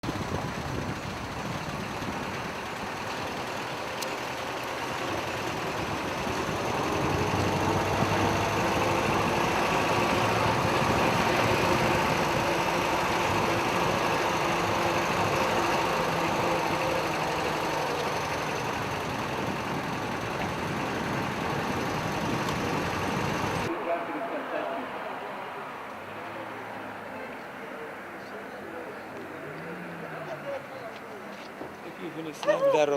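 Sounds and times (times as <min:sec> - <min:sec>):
vehicle engine humming: 0:00.0 - 0:32.9.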